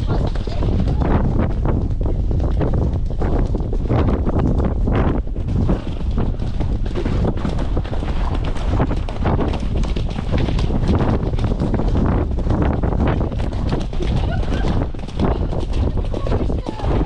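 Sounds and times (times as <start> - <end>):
hoofbeats on muddy track: 0.0 - 17.0
wind on microphone: 0.0 - 17.0.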